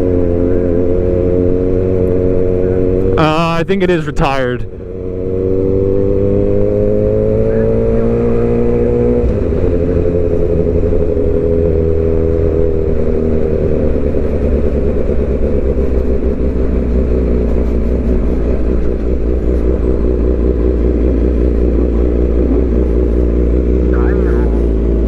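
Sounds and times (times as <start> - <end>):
motorcycle engine cruising: 4.7 - 25.0.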